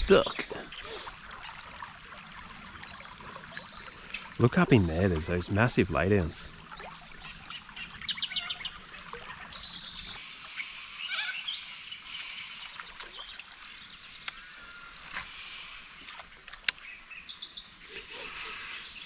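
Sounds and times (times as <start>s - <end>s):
birds chirping and trilling: 0.0s - 1.6s, 2.8s - 19.0s
river water trickling: 0.0s - 19.0s.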